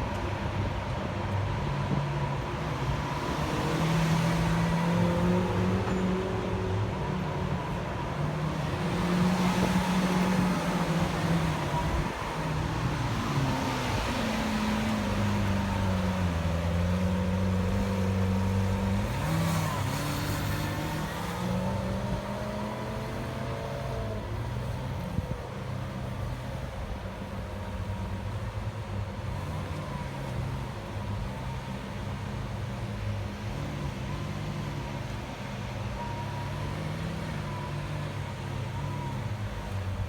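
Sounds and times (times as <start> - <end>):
car engine at low revs: 0.0 - 40.0.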